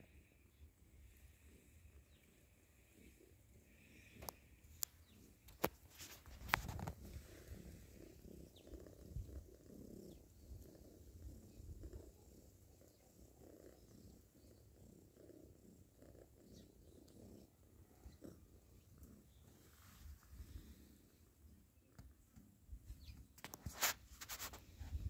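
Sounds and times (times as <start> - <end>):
cat purring: 0.0 - 23.4.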